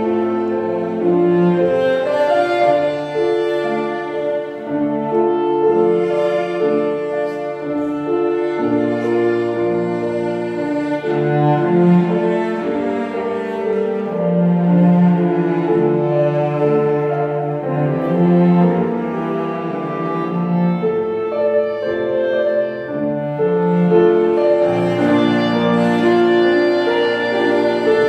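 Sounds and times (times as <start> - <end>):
cello bowed notes: 0.0 - 28.0
clarinet: 0.0 - 28.0
piano: 0.0 - 28.0.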